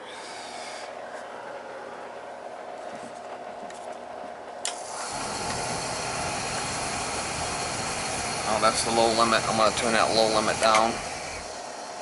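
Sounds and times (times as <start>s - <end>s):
burner motor hum: 0.3s - 12.0s.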